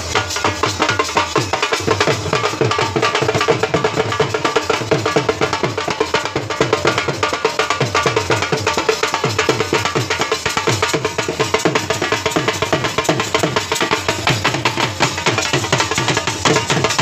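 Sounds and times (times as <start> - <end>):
dhol drum dance beat: 0.0 - 17.0.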